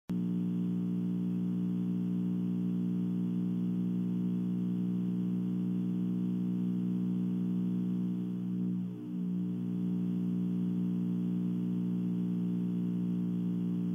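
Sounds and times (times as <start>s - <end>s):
electrical hum: 0.1s - 13.9s.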